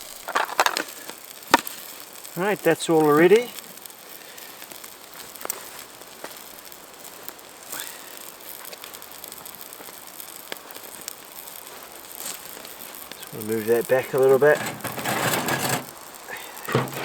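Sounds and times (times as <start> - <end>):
sharp pops from fire: 0.0 - 17.0
wood fire crackling: 0.0 - 17.0.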